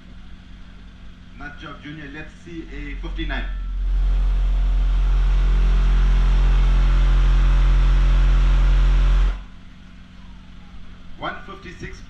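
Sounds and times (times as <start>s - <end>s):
subwoofers playing deep bass tone: 0.0s - 12.0s.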